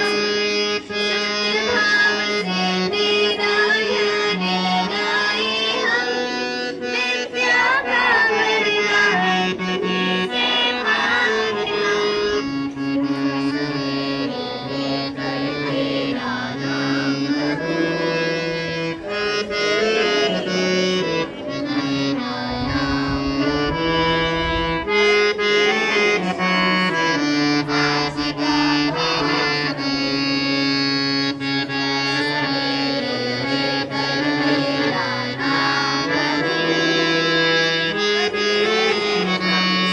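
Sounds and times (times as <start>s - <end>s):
band playing with reedy keyboard: 0.0s - 39.9s.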